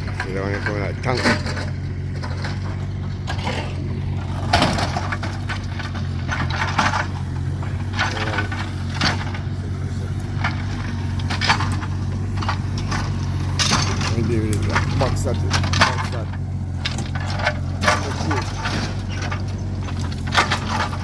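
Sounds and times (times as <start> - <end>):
engine running steadily: 0.0 - 21.0
scrap metal clanking: 0.0 - 21.0.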